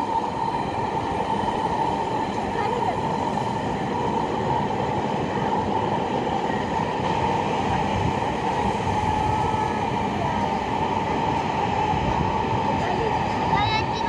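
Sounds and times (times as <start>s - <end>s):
constant whine: 0.0s - 14.0s
train wheels rumbling on rails: 0.0s - 14.0s.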